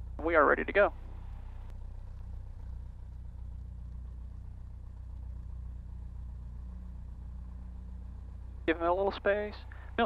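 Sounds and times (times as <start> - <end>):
aircraft engine idling: 0.0 - 10.0.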